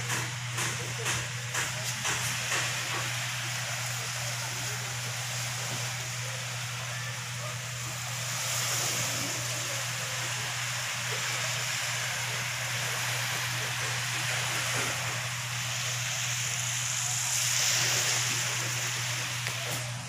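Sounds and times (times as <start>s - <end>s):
gentle surf on sandy beach: 0.0s - 20.0s.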